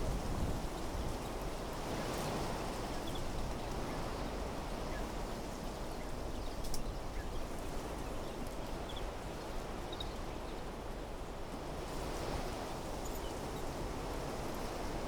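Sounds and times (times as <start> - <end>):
wind through trees and shrubs: 0.0 - 15.0.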